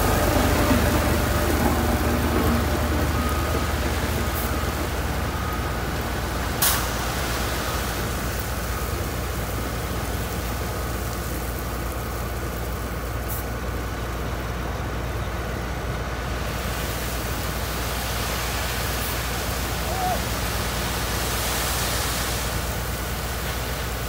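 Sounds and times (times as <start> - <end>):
construction machinery engine running: 0.0 - 21.6.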